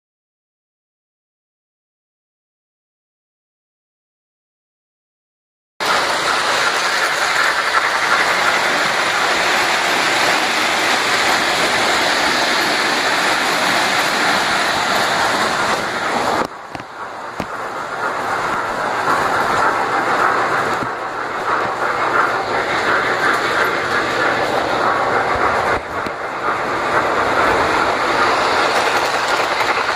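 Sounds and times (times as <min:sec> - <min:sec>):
model train rolling on track: 0:05.8 - 0:29.9.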